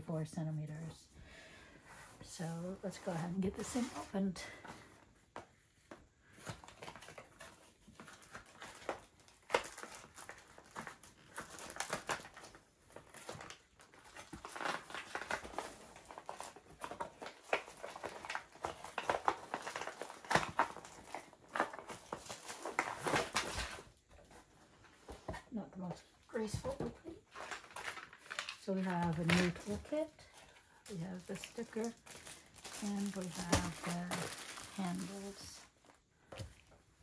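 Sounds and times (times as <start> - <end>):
packaging crinkling and rustling: 5.8 - 25.5, 26.3 - 37.0.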